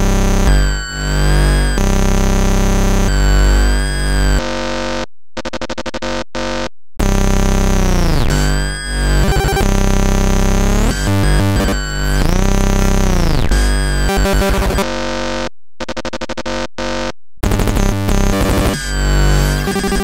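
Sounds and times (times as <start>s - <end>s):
buzzing electronic tones: 0.0s - 20.0s.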